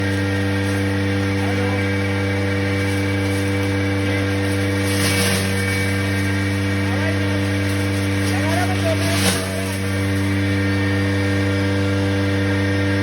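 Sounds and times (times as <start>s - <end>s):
wood chipper humming drone: 0.0s - 13.0s.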